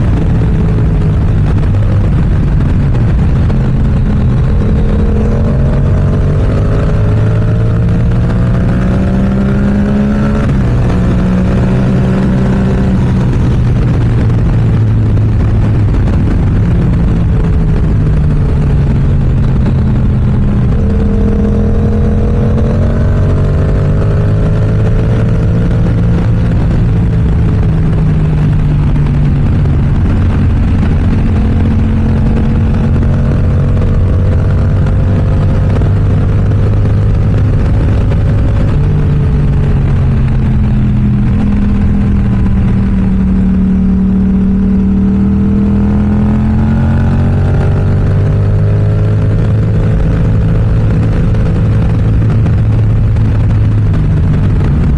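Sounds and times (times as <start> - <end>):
motorcycle engine cruising: 0.0 - 54.9
steady rush of noise: 0.0 - 54.9.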